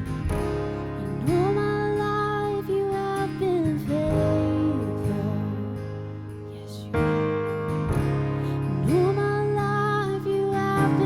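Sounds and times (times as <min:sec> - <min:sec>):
acoustic guitar chord: 0:00.0 - 0:11.0
soft instrumental worship music: 0:00.0 - 0:11.0.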